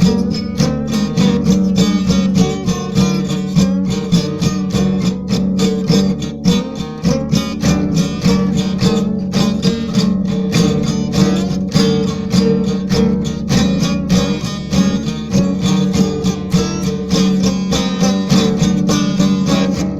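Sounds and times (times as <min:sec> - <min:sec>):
country instrumental music: 0:00.0 - 0:19.9
picked acoustic guitar: 0:00.0 - 0:19.9.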